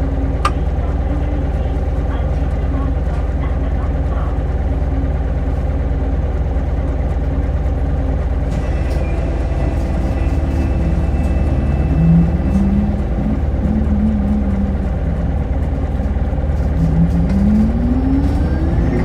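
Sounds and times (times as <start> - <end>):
bus diesel engine idling: 0.0 - 19.0.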